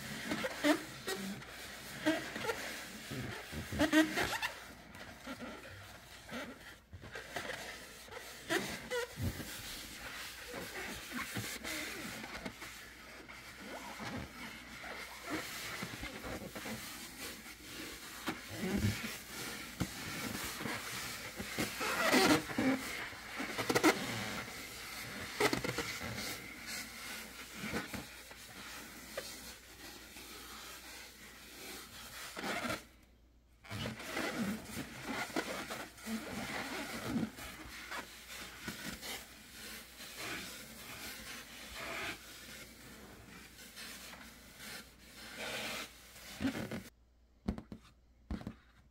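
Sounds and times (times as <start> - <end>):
latex balloon squeaks and scrapes: 0.0 - 48.9.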